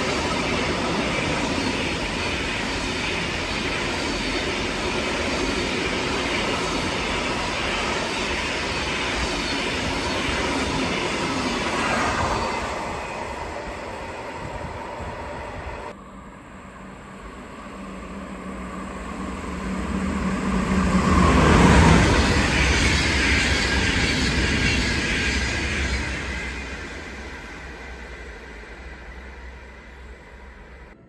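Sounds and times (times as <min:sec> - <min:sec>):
train humming: 0:00.0 - 0:31.0
train passing: 0:00.0 - 0:31.0.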